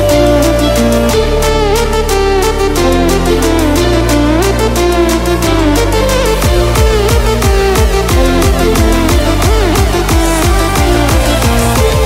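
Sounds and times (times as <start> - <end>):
electronic dance music: 0.0 - 12.0
sliding bass notes: 0.0 - 12.0.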